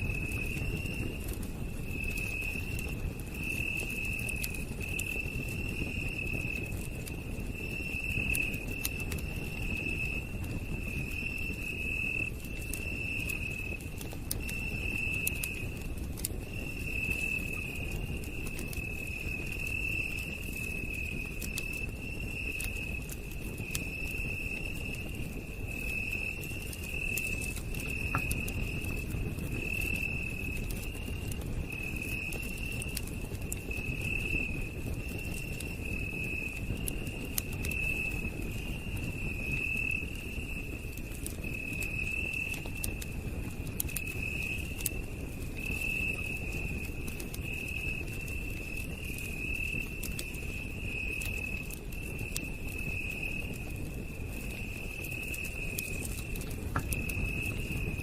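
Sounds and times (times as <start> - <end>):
campfire crackling: 0.0 - 58.0
night insects trilling: 0.0 - 58.0.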